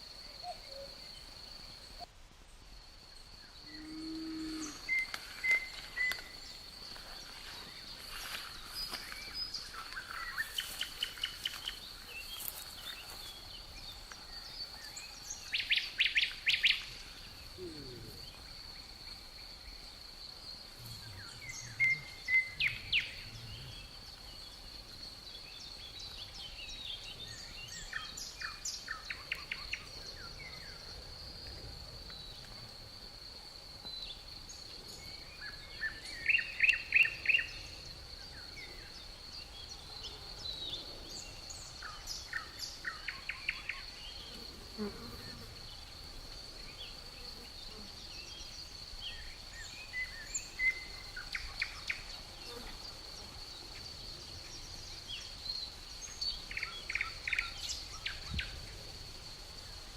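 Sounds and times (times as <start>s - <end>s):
songbirds chirping: 0.0s - 59.9s
cricket trilling: 2.8s - 59.9s.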